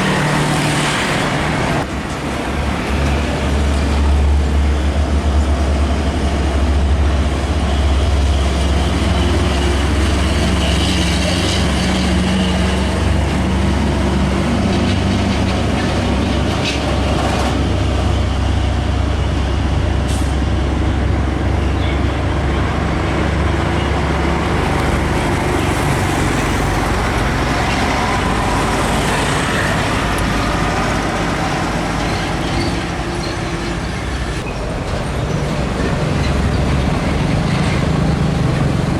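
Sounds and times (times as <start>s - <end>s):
heavy truck engines rumbling: 0.0s - 38.9s
road traffic noise: 0.0s - 38.9s.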